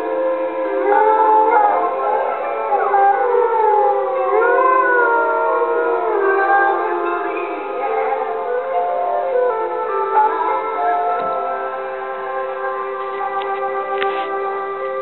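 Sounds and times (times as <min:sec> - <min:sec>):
music: 0:00.0 - 0:15.0
wolves howling: 0:00.0 - 0:15.0.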